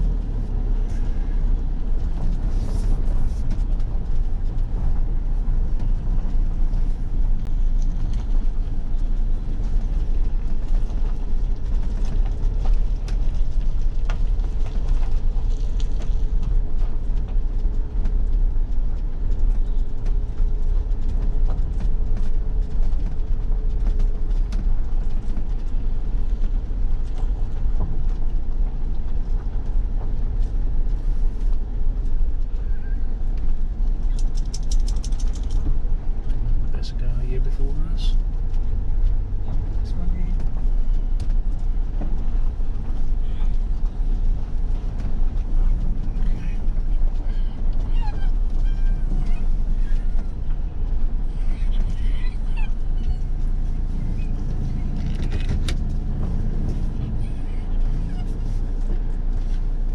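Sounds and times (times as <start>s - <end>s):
engine and road rumble: 0.0s - 59.9s.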